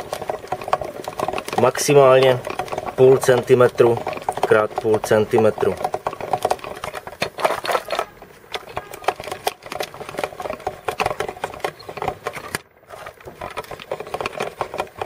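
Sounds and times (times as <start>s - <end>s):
hand grinder crunching and clicking: 0.0s - 15.0s.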